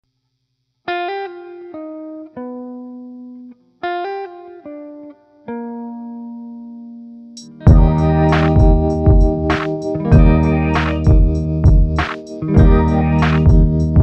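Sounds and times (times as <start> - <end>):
plucked guitar melody: 0.9 - 14.0.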